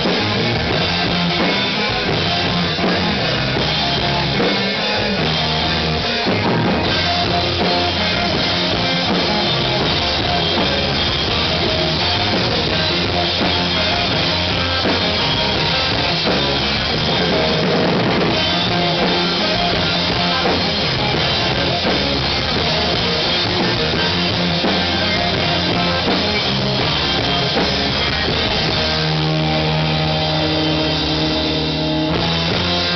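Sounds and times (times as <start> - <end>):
rock band playing live: 0.0 - 32.9.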